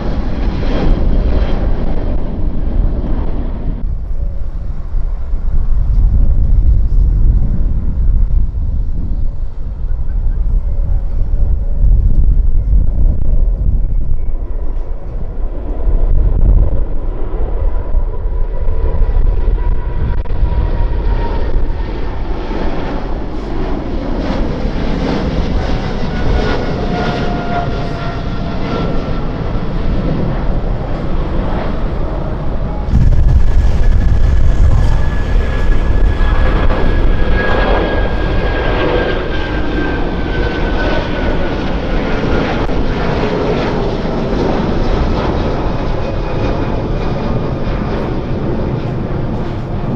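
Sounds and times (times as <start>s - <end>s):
jet engines rumbling and whining: 0.0s - 49.9s.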